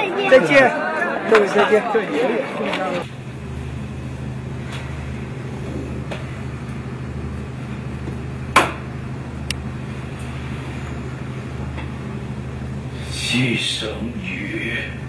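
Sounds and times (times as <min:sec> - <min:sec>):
low mechanical hum: 0:02.4 - 0:15.0.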